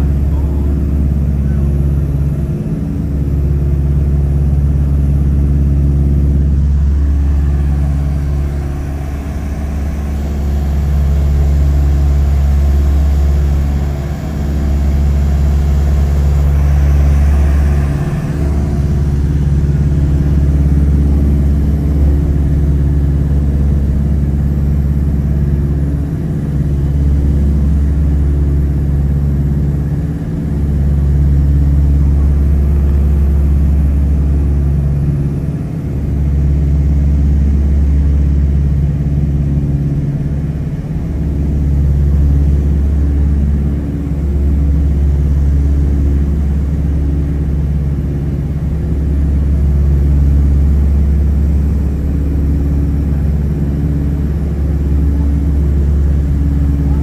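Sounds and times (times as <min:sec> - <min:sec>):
propeller plane engines droning: 0:00.0 - 0:57.0.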